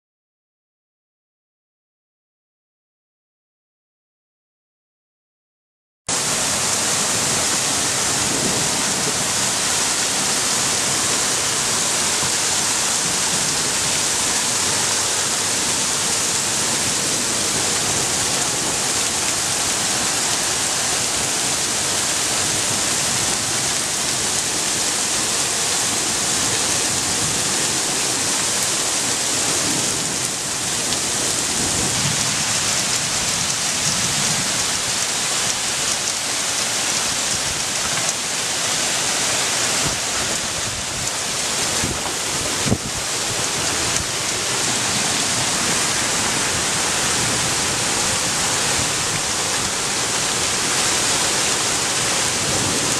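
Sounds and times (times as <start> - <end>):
hail and rain pelting down: 6.1 - 52.9.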